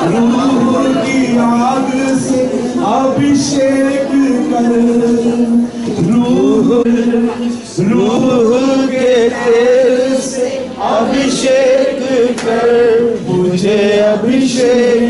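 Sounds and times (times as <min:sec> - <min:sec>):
man singing chant-like melody: 0:00.0 - 0:15.0.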